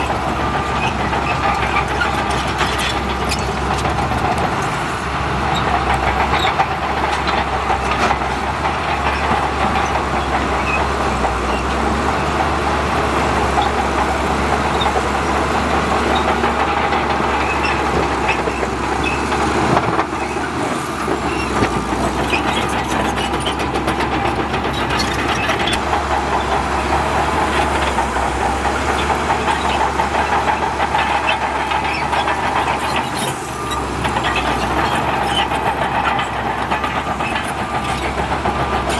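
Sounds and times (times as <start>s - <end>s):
earthmoving machinery diesel engines: 0.0s - 38.9s.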